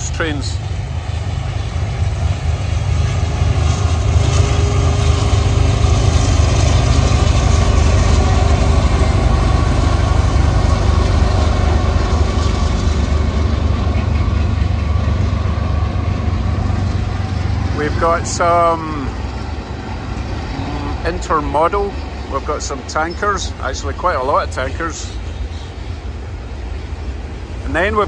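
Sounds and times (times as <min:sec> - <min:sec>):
diesel locomotive engine rumble: 0:00.0 - 0:28.0.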